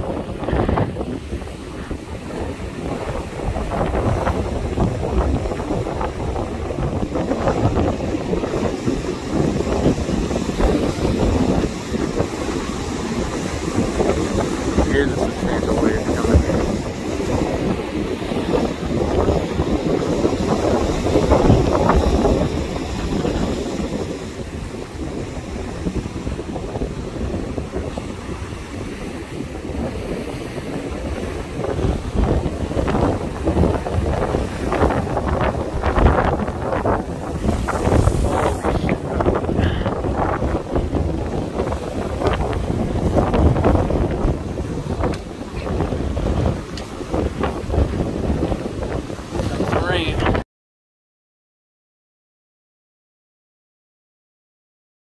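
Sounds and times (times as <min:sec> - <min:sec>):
heavy surf breaking: 0:00.0 - 0:50.4
wind buffeting microphone: 0:00.0 - 0:50.4.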